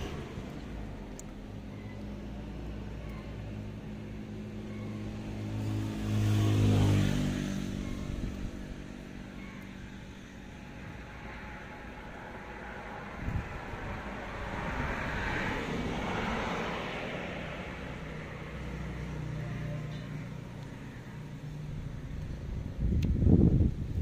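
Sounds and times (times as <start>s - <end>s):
vehicle engine passing by: 0.0s - 23.7s.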